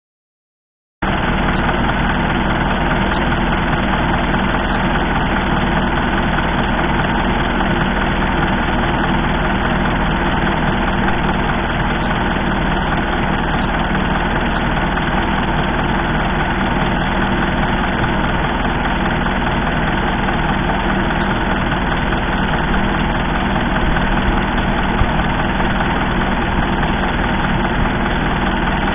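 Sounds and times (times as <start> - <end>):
diesel truck engine idling: 1.0 - 28.9.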